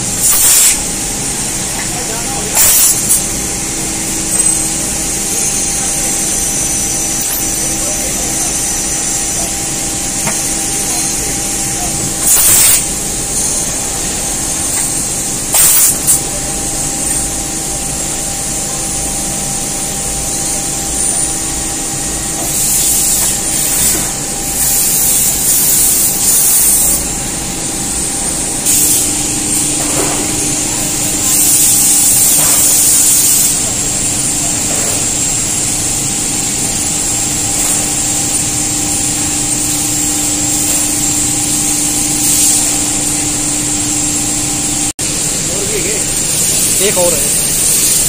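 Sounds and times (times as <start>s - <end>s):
hissing coolant spray: 0.0s - 8.1s, 9.2s - 48.0s.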